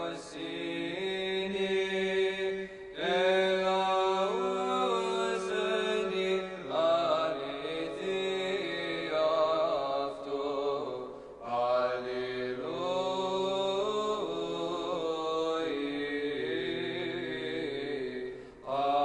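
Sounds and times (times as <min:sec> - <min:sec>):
man chanting a hymn: 0:00.0 - 0:19.0.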